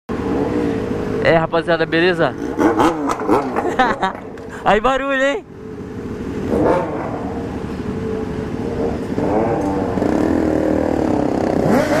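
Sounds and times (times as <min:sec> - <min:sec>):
motorcycle engines idling and revving: 0:00.1 - 0:12.0.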